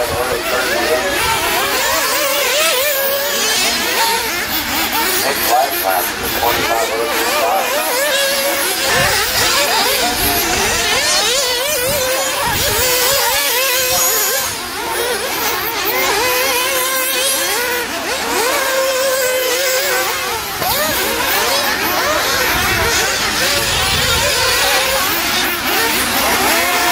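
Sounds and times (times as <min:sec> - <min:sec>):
rc car engines revving: 0:00.0 - 0:26.9.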